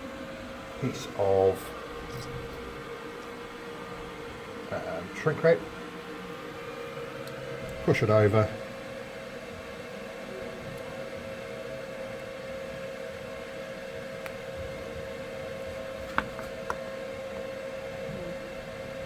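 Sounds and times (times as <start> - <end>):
extractor fan humming: 0.0 - 19.0.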